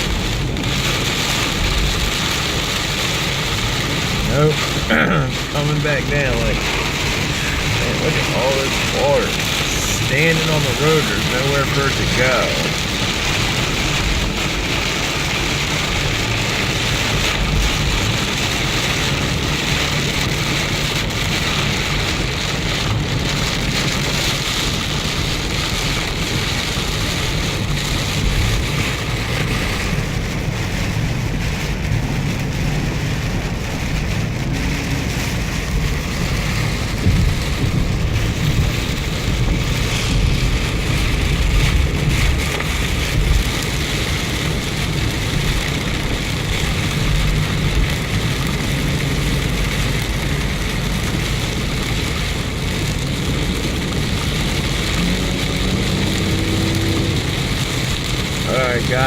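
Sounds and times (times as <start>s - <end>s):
heavy rain on a car: 0.0s - 59.0s
low road rumble: 0.0s - 59.0s.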